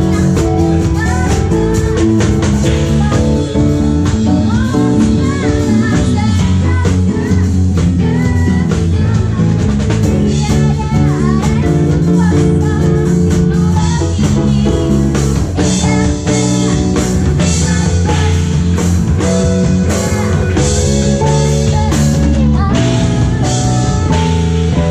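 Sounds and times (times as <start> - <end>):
live funk-pop band playing: 0.0 - 24.9.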